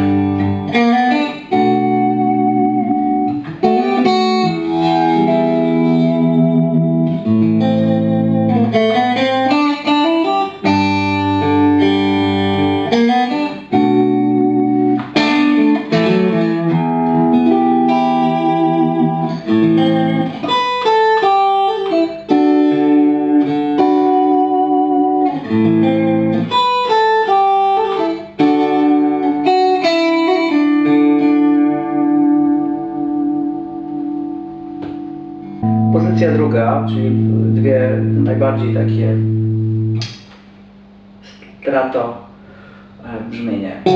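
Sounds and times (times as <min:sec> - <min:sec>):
electric guitar chords and notes: 0:00.0 - 0:41.4.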